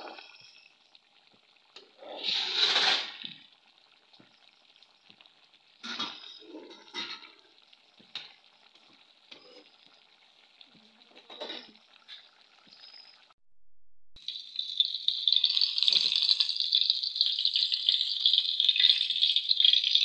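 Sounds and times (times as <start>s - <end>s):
curry sizzling in a pan: 0.0s - 13.4s, 14.2s - 20.0s
fish frying in oil: 0.0s - 13.4s, 14.2s - 20.0s.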